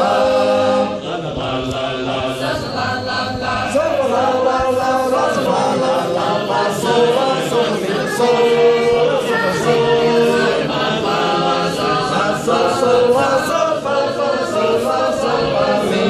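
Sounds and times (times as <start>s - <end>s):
group singing a cappella harmony: 0.0s - 16.0s.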